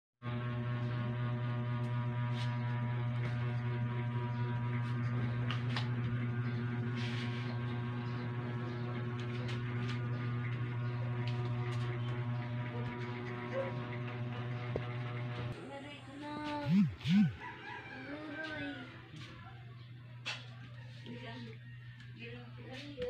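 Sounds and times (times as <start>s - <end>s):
electrical hum: 0.2s - 23.0s.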